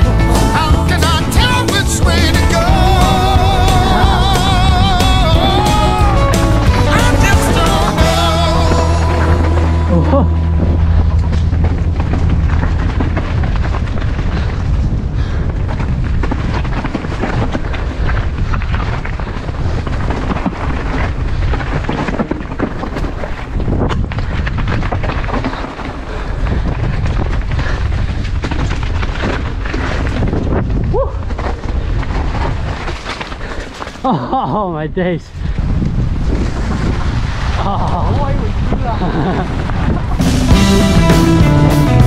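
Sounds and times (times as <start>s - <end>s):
tyres crunching over stones: 0.0s - 34.2s
bike rattling: 0.0s - 34.8s, 35.4s - 42.0s
wind buffeting microphone: 1.4s - 40.8s.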